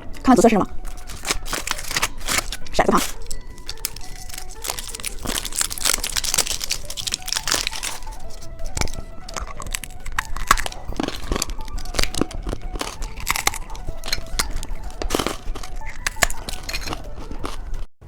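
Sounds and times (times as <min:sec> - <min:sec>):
quiet background music: 0:00.0 - 0:17.9
plastic candy wrapper crinkling: 0:00.8 - 0:17.8.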